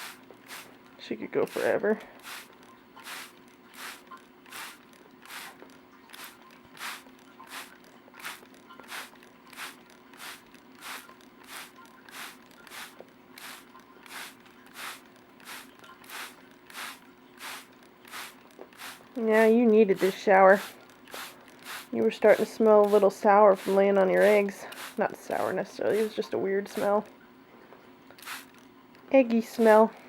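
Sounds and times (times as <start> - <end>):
spray bottle squirts: 0.0 - 0.8, 1.5 - 27.0, 28.2 - 28.6.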